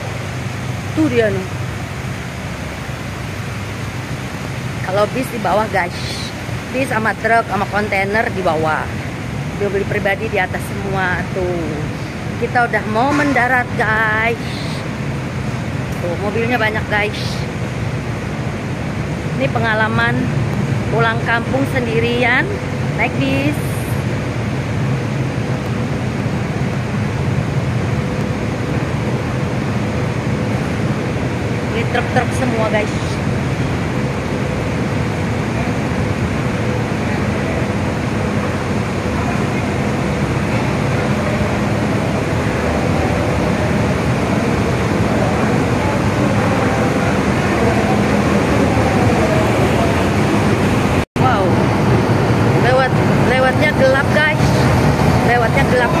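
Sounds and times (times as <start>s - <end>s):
low machinery drone: 0.0s - 56.0s.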